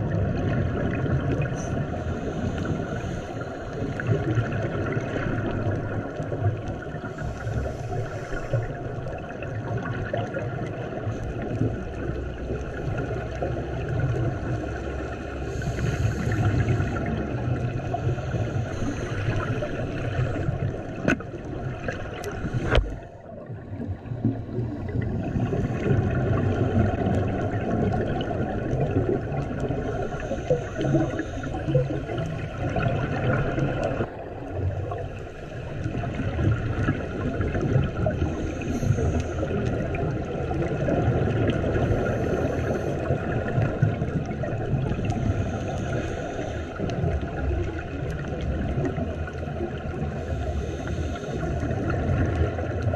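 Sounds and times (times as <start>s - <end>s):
regulator bubbles: 0.0s - 52.9s
underwater water rumble: 0.0s - 52.9s.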